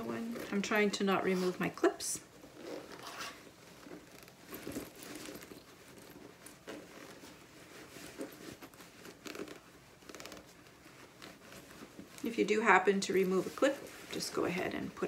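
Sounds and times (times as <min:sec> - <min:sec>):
fabric rustling and crinkling: 0:00.0 - 0:15.0.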